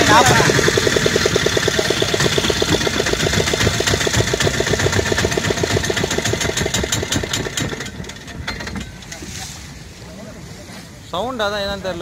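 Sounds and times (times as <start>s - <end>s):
boat engine puttering: 0.0s - 9.8s.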